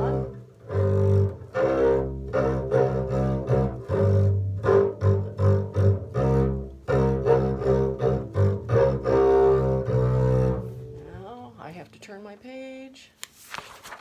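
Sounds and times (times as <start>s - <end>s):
double bass short notes: 0.0s - 11.7s
bowed strings: 0.0s - 12.6s.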